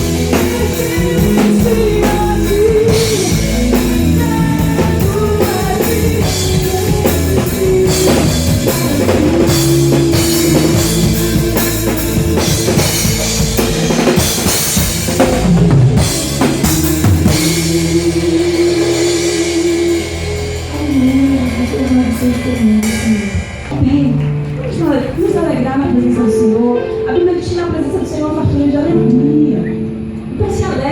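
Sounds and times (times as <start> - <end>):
drum kit: 0.0 - 27.1
rock band playing: 0.0 - 29.1.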